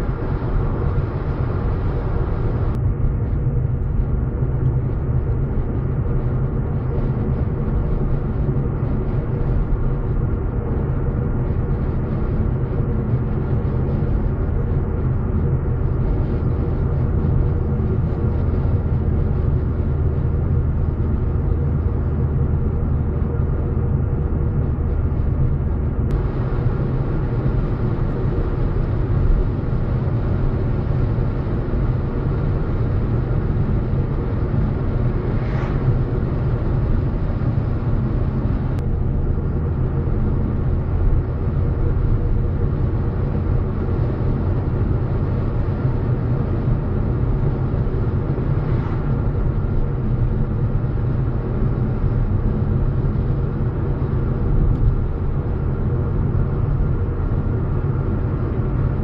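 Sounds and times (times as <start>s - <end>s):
car engine and tyres droning: 0.0s - 59.0s.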